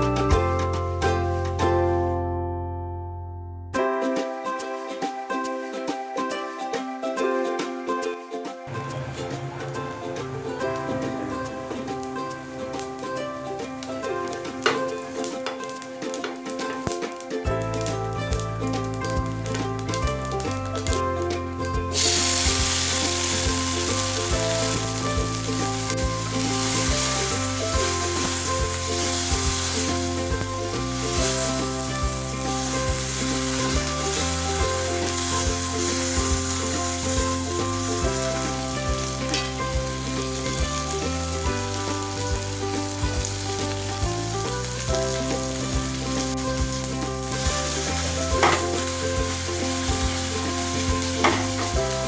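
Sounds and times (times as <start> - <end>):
tomatoes sizzling in hot oil: 8.7 - 52.0.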